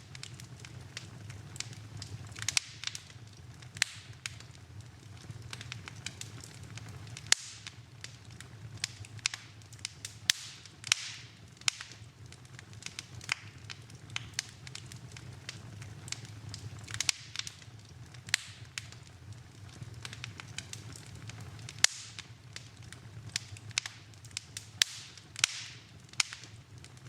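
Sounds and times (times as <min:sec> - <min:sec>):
fire hiss: 0:00.0 - 0:27.0
wood fire crackling: 0:00.0 - 0:27.0.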